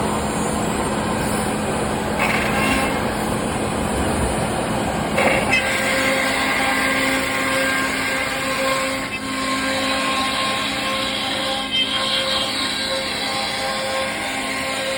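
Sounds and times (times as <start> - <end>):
cnc router running: 0.0 - 14.9.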